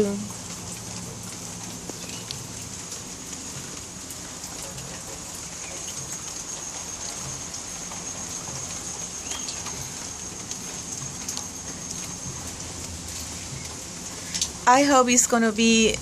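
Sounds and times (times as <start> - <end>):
raindrop ticks: 0.0 - 16.0
steady rain: 0.0 - 16.0.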